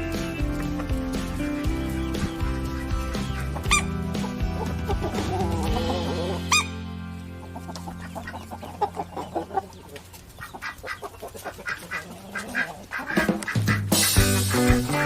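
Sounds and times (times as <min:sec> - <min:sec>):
chickens clucking: 0:00.0 - 0:15.0
chicken squawk: 0:01.6 - 0:15.0.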